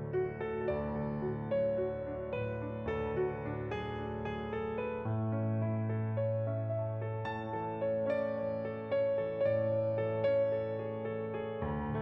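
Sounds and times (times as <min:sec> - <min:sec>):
gentle new-age keyboard music: 0:00.0 - 0:12.0.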